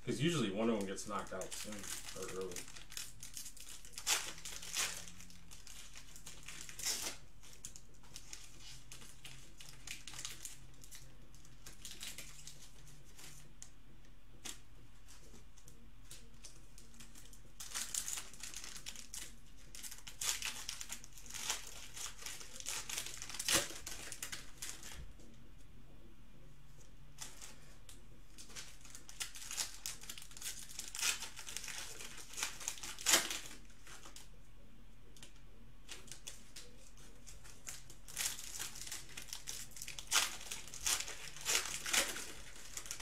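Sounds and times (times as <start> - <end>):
plastic wrappers crinkling: 0.0 - 13.5, 14.4 - 25.1, 27.2 - 34.3, 35.2 - 43.0.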